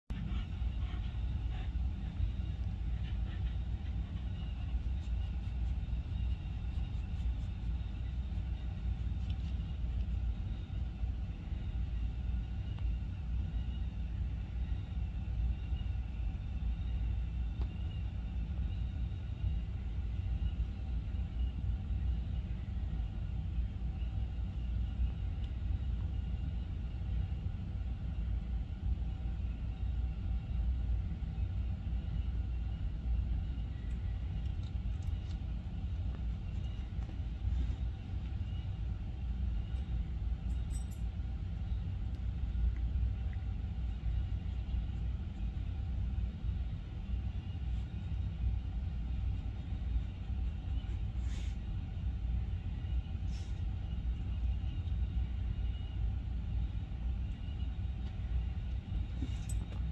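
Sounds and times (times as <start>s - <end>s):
faint thin hum: 0.1s - 59.9s
low background rumble: 0.1s - 59.9s.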